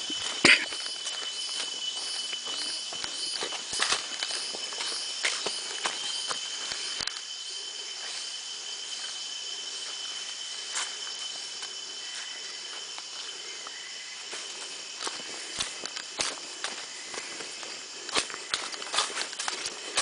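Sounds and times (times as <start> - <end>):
footsteps on forest trail: 0.0 - 20.0
insects whining: 0.0 - 20.0.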